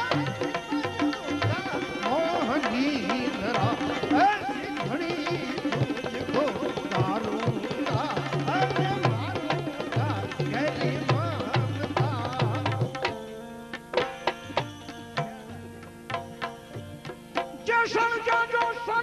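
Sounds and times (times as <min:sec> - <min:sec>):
hand drum rhythm: 0:00.0 - 0:19.0.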